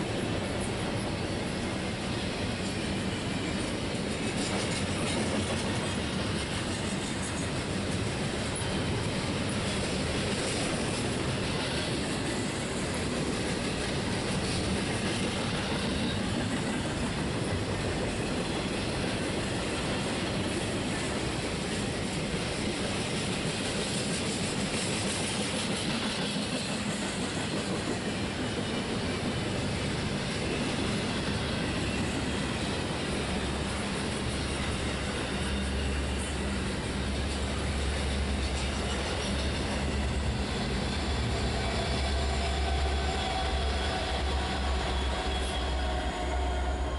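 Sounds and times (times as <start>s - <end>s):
train wheels rolling on rail: 0.0s - 46.9s.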